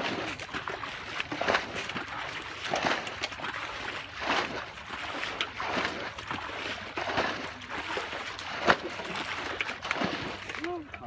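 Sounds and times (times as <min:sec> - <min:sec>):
sharp water slap: 0:00.0 - 0:10.9
muddy water splashing: 0:00.0 - 0:11.0.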